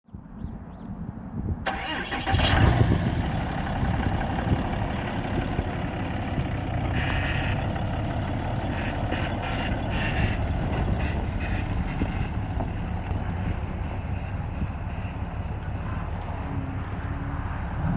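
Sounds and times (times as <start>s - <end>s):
pickup engine starting and idling: 1.6s - 17.9s.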